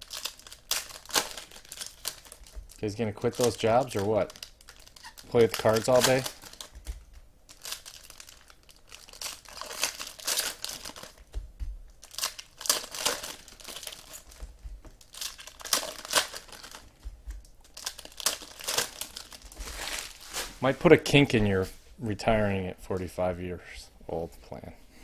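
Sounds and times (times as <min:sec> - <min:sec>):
card pack wrappers crinkling: 0:00.0 - 0:21.2.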